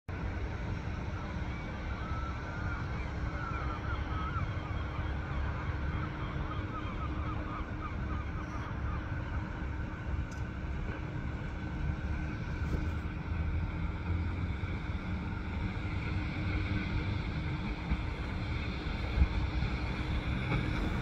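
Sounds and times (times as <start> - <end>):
diesel railcar rumble: 0.1 - 21.0.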